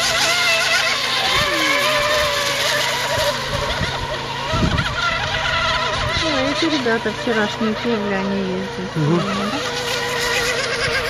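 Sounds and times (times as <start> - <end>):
model boat motor whining: 0.0 - 11.0.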